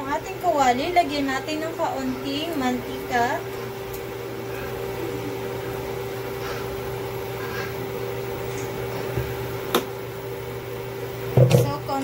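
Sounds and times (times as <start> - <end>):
electric cooktop humming: 0.0 - 12.0.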